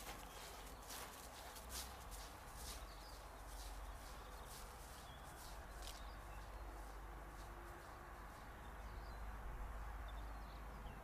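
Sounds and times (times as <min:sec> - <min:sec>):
footsteps on dry grass: 0:00.0 - 0:09.5.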